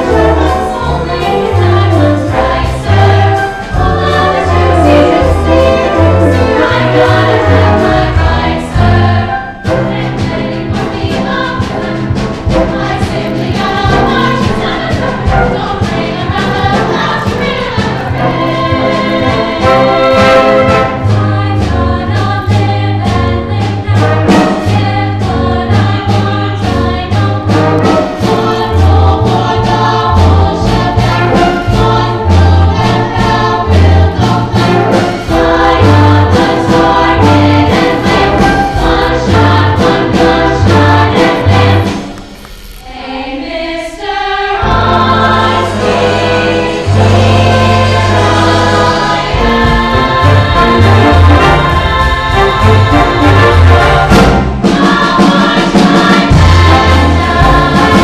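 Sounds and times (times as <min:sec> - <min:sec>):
instrumental accompaniment: 0:00.0 - 0:58.0
women's choir singing a show tune: 0:00.0 - 0:58.0.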